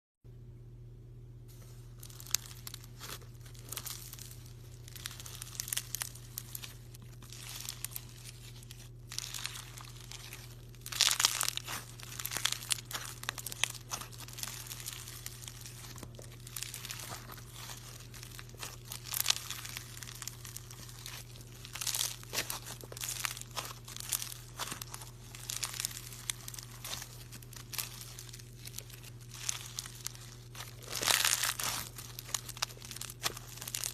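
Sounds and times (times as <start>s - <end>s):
faint steady hum: 0.2s - 33.9s
slime crackling: 1.5s - 33.9s.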